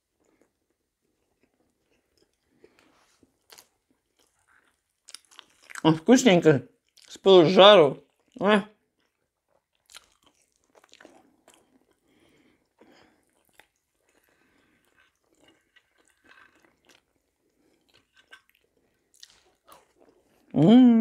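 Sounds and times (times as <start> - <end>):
person chewing: 0.0 - 6.0, 6.8 - 20.7.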